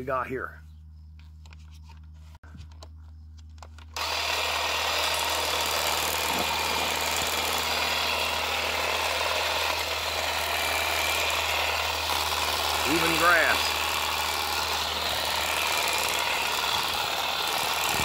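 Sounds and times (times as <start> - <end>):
hedge trimmer cutting stems: 2.6 - 18.0.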